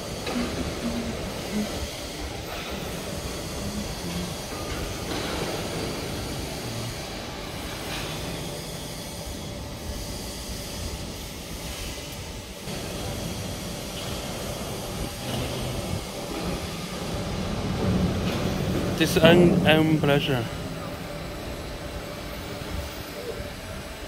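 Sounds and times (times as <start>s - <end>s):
grinding machine rumble with hiss: 0.0s - 24.0s.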